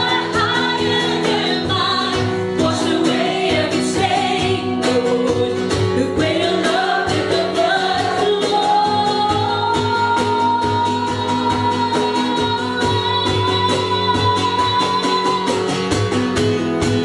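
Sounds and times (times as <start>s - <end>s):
woman singing into a microphone: 0.0s - 17.0s.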